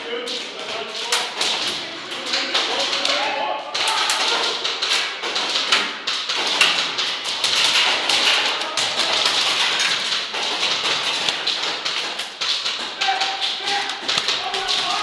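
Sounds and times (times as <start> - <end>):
airsoft gunfire: 1.2 - 15.0
bbs striking surfaces: 1.3 - 15.0.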